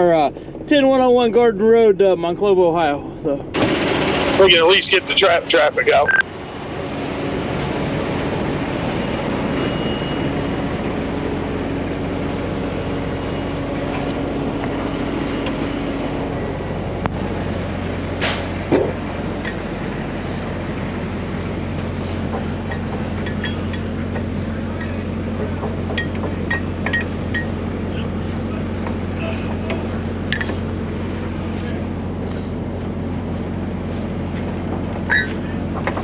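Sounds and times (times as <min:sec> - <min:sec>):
truck diesel engine droning: 0:00.0 - 0:36.0.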